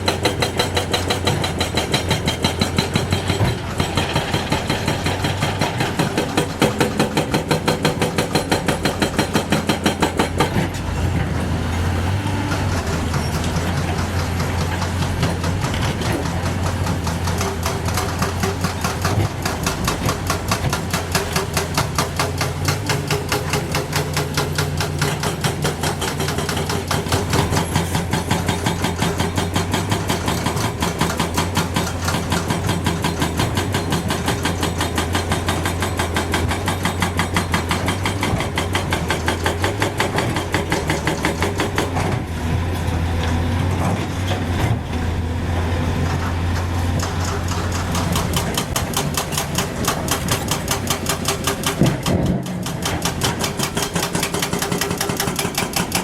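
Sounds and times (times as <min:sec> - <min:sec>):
diesel engine pulsing clatter: 0:00.0 - 0:56.0.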